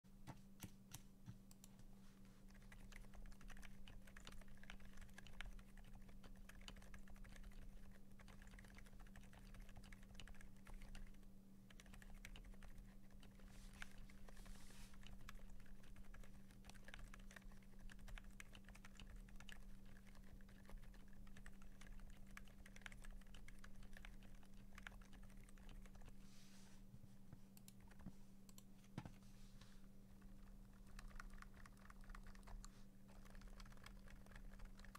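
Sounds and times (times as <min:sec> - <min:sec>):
mechanical keyboard typing: 0:02.5 - 0:26.1, 0:30.2 - 0:34.9.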